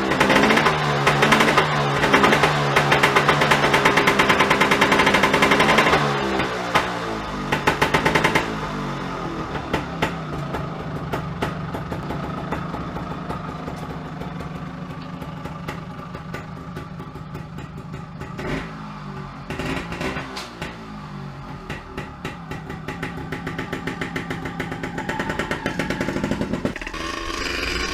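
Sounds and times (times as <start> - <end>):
two-stroke motorcycle engine revving: 0.0 - 27.9.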